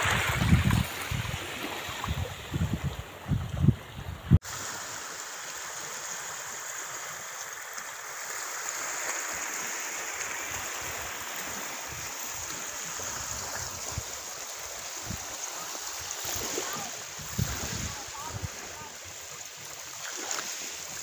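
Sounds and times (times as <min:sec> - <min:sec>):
small waves washing on pebbles: 0:00.0 - 0:03.3, 0:04.4 - 0:21.0.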